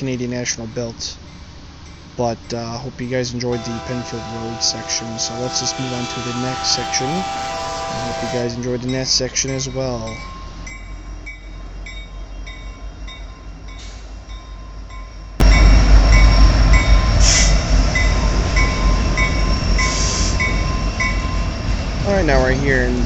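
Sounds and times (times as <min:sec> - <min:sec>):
crossing warning bell dinging: 0:00.0 - 0:23.0
freight train rumble: 0:00.0 - 0:23.0.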